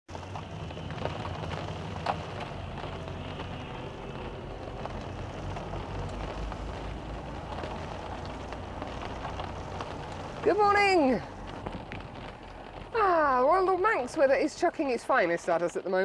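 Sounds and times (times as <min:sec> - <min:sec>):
storm wind rumbling: 0:00.1 - 0:15.9
raindrops ticking: 0:00.1 - 0:16.0
steady rain: 0:00.1 - 0:16.0.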